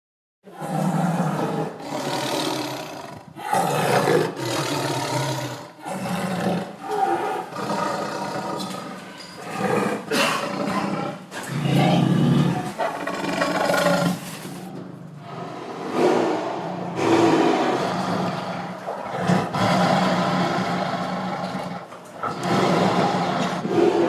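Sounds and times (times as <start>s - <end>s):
big cat roaring and growling: 0.5s - 24.0s.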